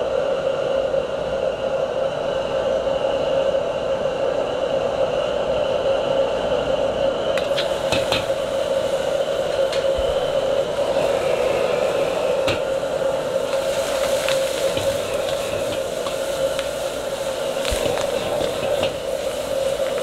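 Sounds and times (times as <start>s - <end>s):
gas burner roaring: 0.0s - 20.0s.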